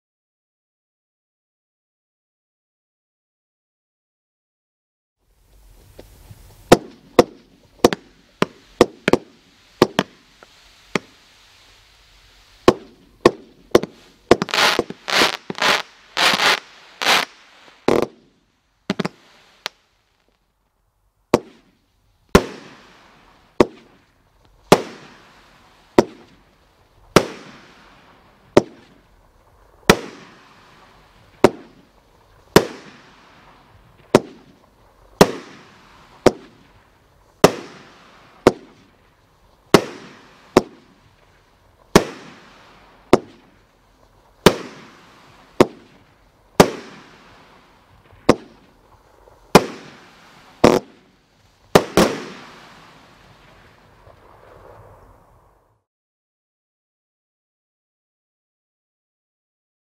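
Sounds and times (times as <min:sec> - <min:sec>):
firework bangs with hiss: 0:05.3 - 0:20.5, 0:21.3 - 0:55.8.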